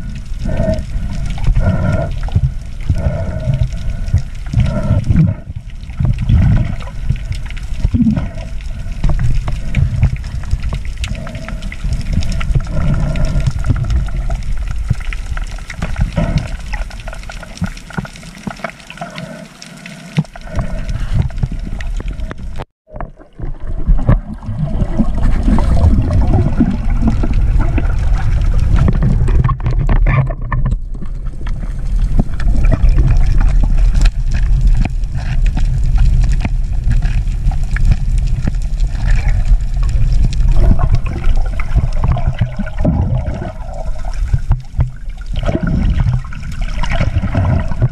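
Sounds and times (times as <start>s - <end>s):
muffled seawater rush and slosh: 0.0s - 47.9s.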